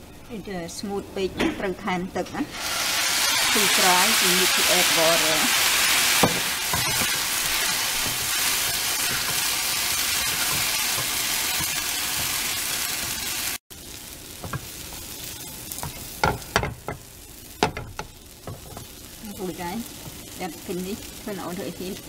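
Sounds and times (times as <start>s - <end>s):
filling sizzling in oil: 2.5s - 22.0s.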